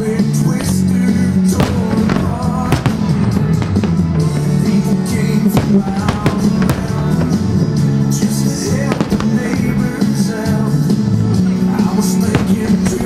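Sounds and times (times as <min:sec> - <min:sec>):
fireworks bursting with bangs: 0:00.0 - 0:13.0
loud music with steady beat: 0:00.0 - 0:13.0.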